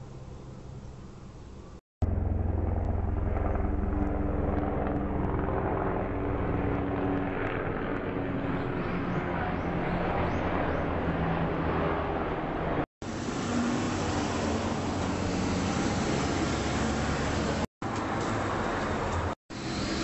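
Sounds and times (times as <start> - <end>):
helicopter flying low: 0.1 - 20.0.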